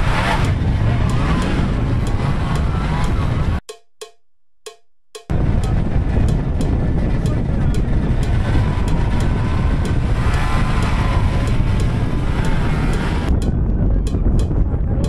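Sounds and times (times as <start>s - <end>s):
snowmobile engines rumbling: 0.0s - 3.6s, 5.3s - 15.0s
faint sharp ticking: 0.2s - 14.7s.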